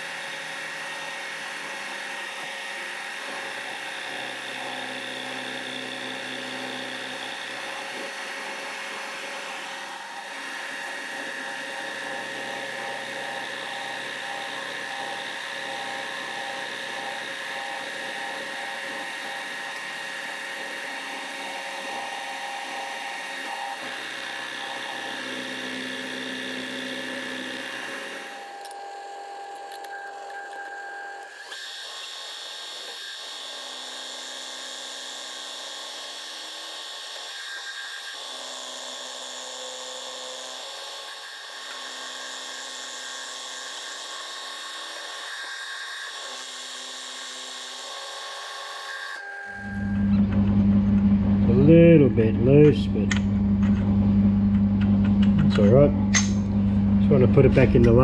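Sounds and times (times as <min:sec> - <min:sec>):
milling spindle whine: 0:00.0 - 0:58.0.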